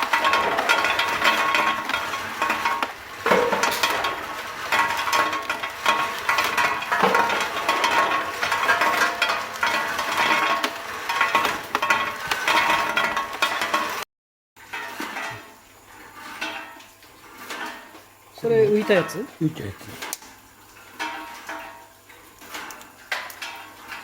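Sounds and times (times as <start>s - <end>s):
nuts rattling through sorting machine: 0.0s - 14.0s, 14.7s - 21.7s.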